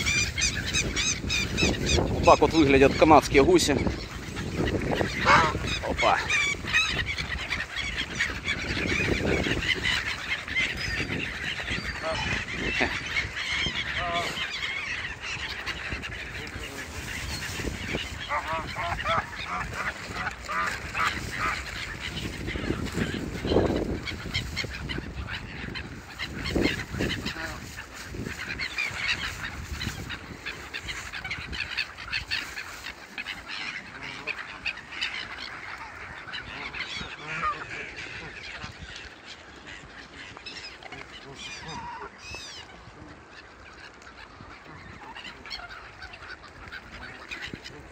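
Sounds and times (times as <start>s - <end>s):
geese honking: 0.0s - 47.9s.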